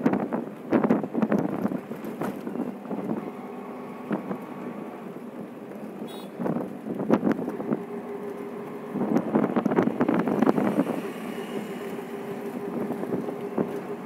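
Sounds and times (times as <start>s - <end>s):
vehicle road and engine noise: 0.0s - 14.0s
wind rushing across microphone: 0.0s - 14.0s.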